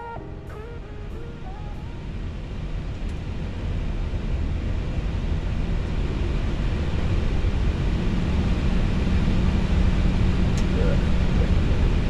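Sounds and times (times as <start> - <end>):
aircraft engines and airflow rumble: 0.0 - 12.0.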